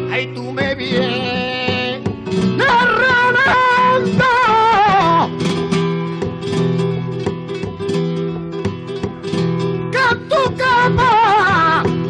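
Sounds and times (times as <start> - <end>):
flamenco singer wavering note: 0.0 - 7.3, 8.0 - 12.0
acoustic flamenco guitar: 0.0 - 12.0.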